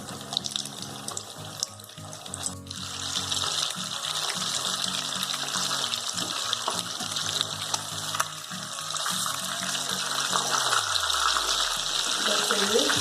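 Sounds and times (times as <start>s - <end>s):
background music: 0.0s - 13.0s
chicken deep-frying in oil: 0.0s - 13.0s.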